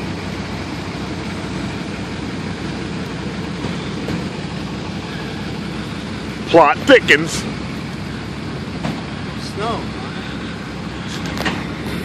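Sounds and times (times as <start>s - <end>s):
truck engines idling: 0.0s - 12.0s.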